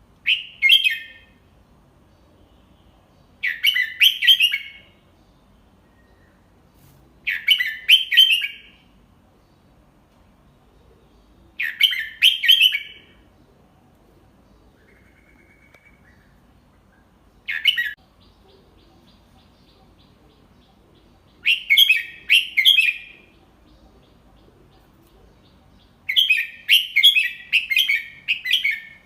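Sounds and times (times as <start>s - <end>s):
bird singing warbled phrases: 0.0s - 29.0s.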